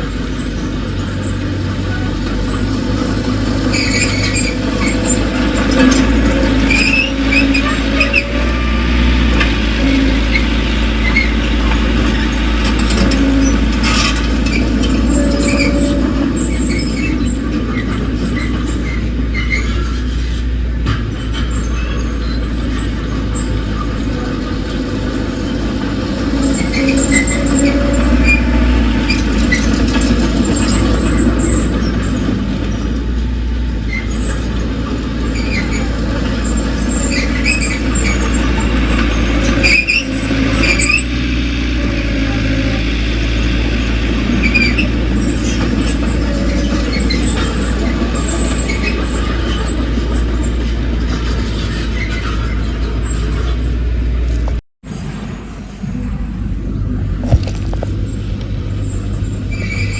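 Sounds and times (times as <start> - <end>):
bulldozer diesel engine running: 0.0 - 59.9
steel tracks squealing: 0.0 - 59.9.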